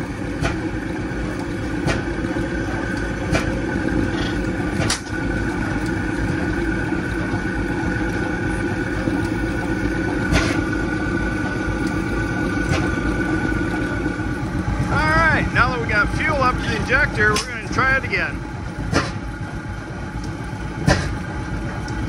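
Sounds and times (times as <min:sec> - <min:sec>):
stationary engine running: 0:00.0 - 0:22.0.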